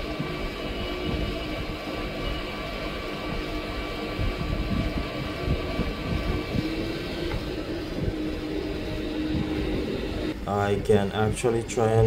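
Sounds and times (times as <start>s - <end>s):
hot-air rework station blowing: 0.0s - 12.0s.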